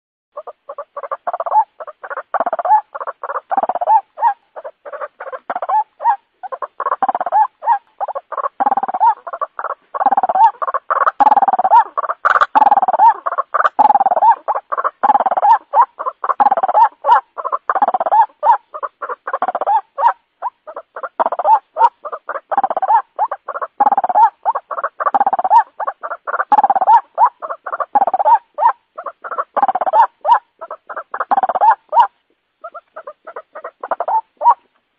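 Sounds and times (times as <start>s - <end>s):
waterhen calling harsh notes: 0.4s - 34.7s.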